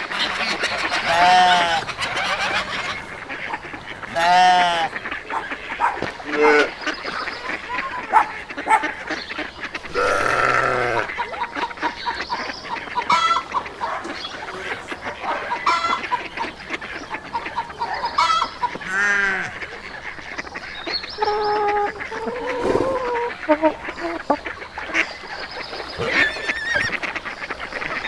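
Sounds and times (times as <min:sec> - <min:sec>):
fowl honking and clucking: 0:00.0 - 0:28.0.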